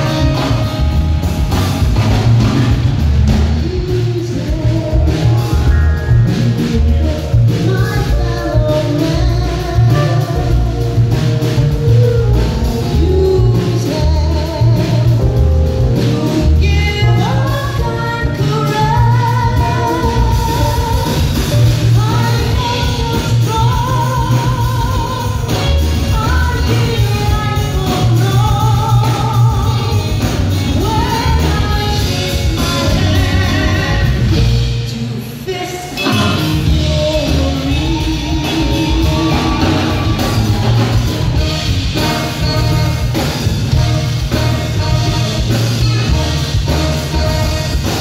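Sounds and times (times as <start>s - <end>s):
live jazz band: 0.0s - 48.0s.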